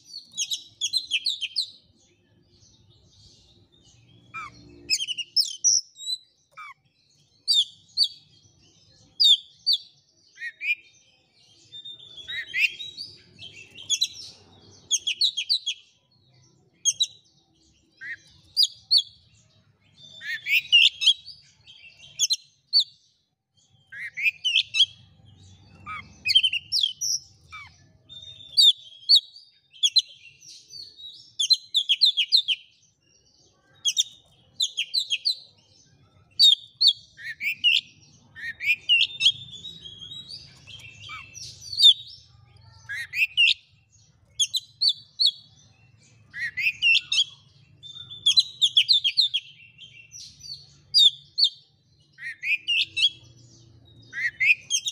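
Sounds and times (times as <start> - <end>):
magpie-robin singing: 0.0 - 54.9.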